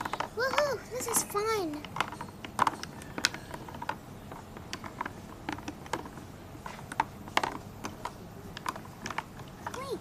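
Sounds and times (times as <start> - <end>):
small hard objects clicking: 0.0 - 10.0.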